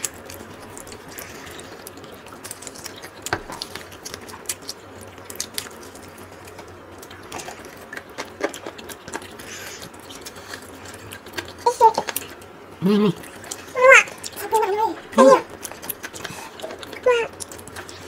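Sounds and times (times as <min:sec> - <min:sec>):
crunching fried chicken: 0:00.0 - 0:18.0.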